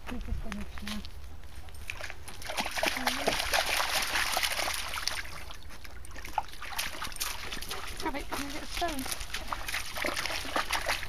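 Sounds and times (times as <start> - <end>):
dog splashing in stream: 1.8 - 11.0.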